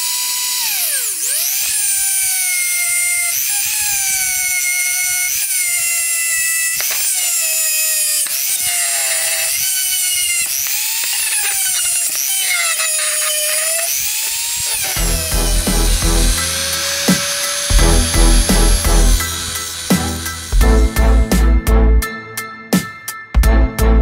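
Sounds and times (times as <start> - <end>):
rotary tool whining on metal: 0.0 - 21.4.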